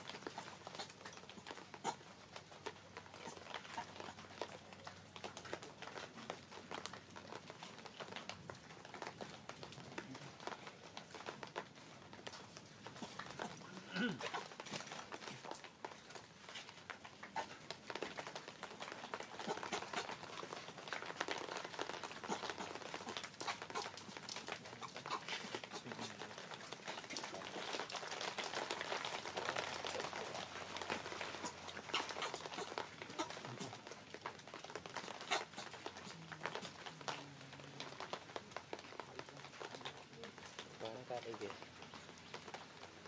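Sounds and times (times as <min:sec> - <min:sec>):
monkey chewing fruit: 0:00.0 - 0:43.0
steady outdoor hiss: 0:00.0 - 0:43.0.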